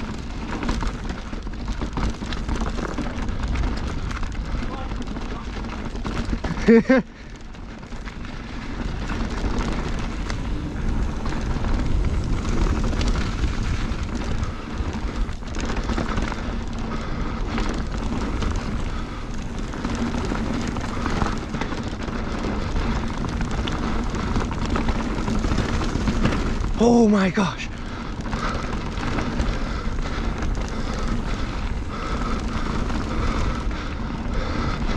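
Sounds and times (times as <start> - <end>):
wind buffeting microphone: 0.0 - 26.8, 27.7 - 34.9
bike rattling and knocking: 0.0 - 34.9.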